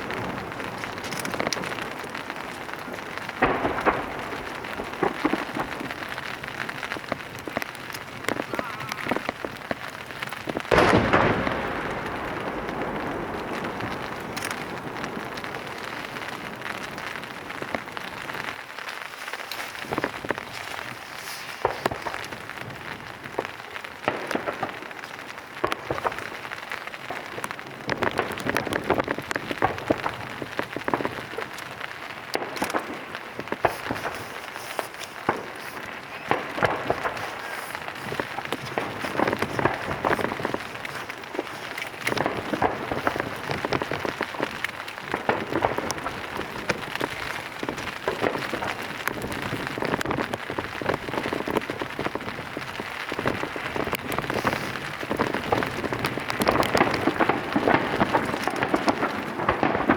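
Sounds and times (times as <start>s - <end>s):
rain hiss: 0.0s - 59.9s
raindrop hits: 0.0s - 59.9s.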